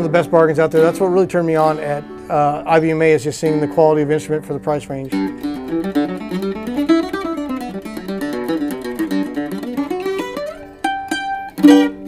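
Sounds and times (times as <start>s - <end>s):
mandolin picking melody: 0.0s - 12.0s.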